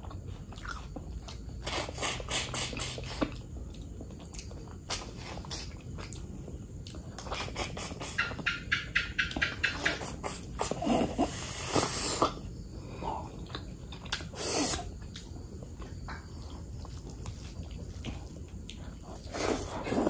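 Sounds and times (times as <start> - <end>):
chewing and wet mouth sounds: 0.0 - 20.0.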